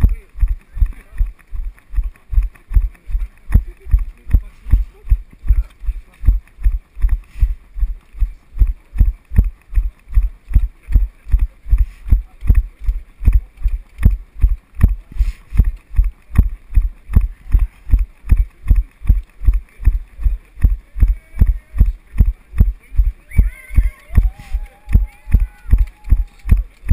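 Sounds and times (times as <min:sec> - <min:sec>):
running footfalls thudding: 0:00.0 - 0:26.9.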